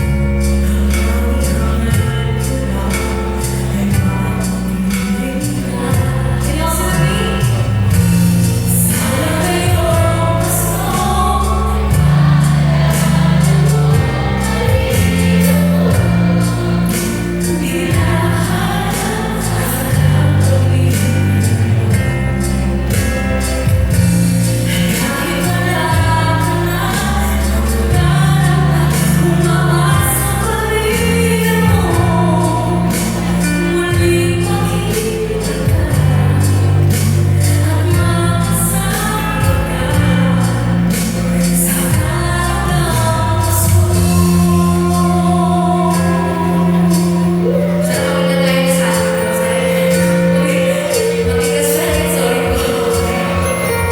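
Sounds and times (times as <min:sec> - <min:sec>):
instrumental accompaniment: 0:00.0 - 0:53.9
stepping bass line: 0:00.0 - 0:53.9
woman singing: 0:00.0 - 0:53.9.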